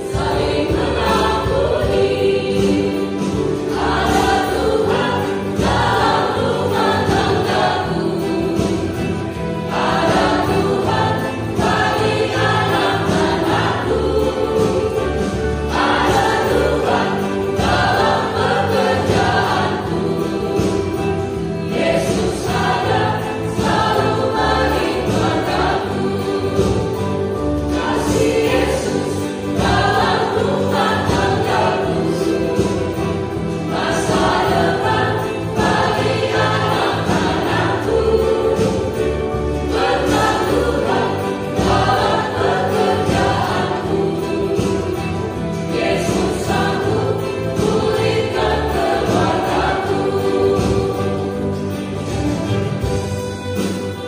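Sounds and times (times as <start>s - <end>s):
mixed choir singing a hymn: 0.0s - 54.0s.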